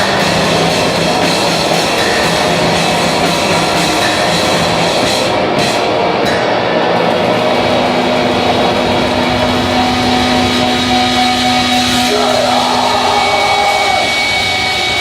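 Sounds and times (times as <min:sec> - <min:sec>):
distorted guitar drone: 0:00.0 - 0:15.0.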